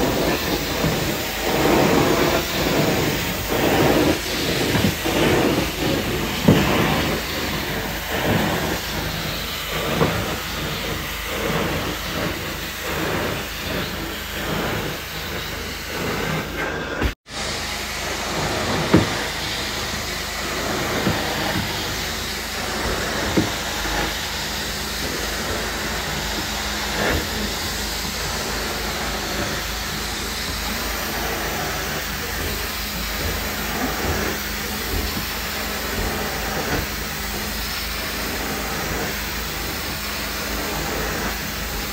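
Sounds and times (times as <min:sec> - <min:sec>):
carpet extraction wand hissing: 0:00.0 - 0:41.9.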